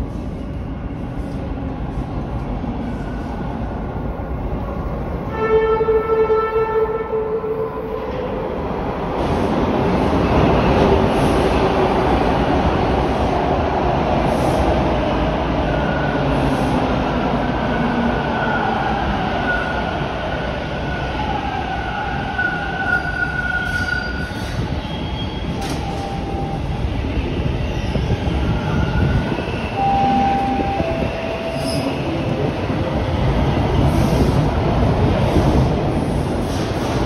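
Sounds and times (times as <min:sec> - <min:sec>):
subway train wheels rumbling: 0:00.0 - 0:37.0.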